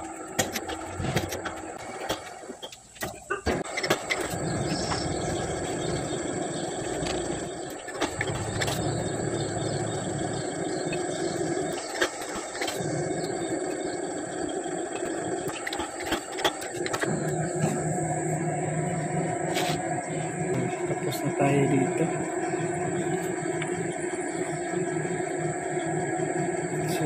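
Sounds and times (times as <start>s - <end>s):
machine tool motor running: 3.4s - 27.0s.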